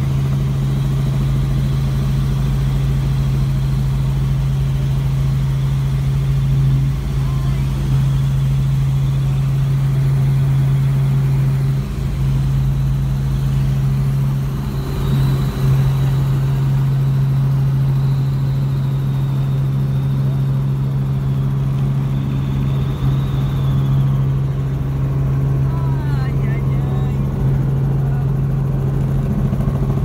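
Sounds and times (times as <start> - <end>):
faint high whine: 0.0 - 30.0
light aircraft engine drone: 0.0 - 30.0.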